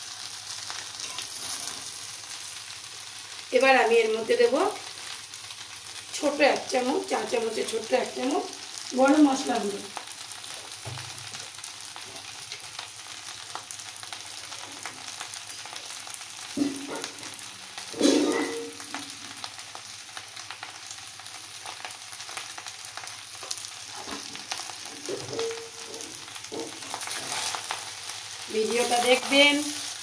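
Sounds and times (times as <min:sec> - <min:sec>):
rice sizzling in a pan: 0:00.0 - 0:30.0.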